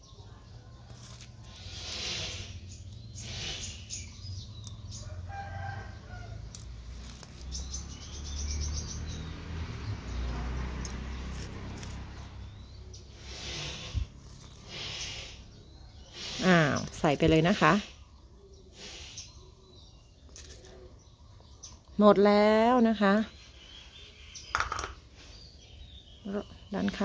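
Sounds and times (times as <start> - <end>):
small birds calling: 0.0 - 27.0.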